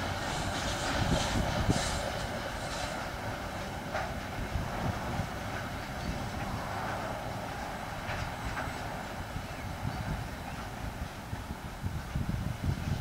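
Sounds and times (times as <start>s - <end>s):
rumble of train wheels on rail: 0.0s - 13.0s.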